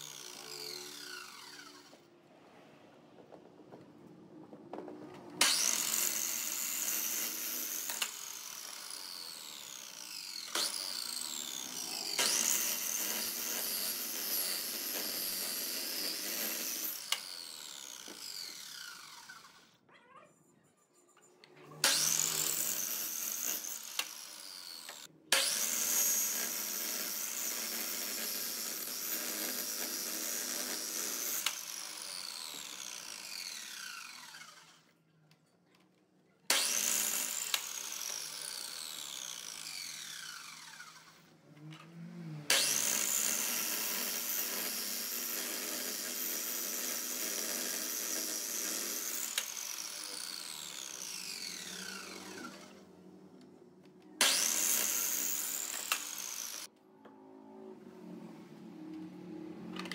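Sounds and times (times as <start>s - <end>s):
miter saw whining: 0.0s - 2.1s, 5.4s - 19.8s, 21.8s - 35.0s, 36.5s - 53.6s, 54.2s - 56.7s
saw cutting through log: 0.0s - 2.1s, 5.4s - 19.8s, 21.8s - 35.0s, 36.5s - 53.1s, 54.2s - 56.7s.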